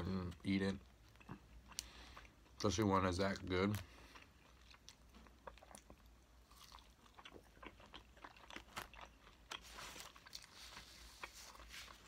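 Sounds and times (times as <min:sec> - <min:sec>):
person chewing: 0:00.3 - 0:02.7, 0:03.3 - 0:12.0.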